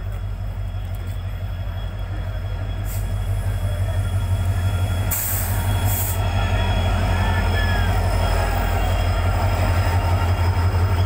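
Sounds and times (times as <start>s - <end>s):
locomotive low rumble: 0.0s - 11.0s.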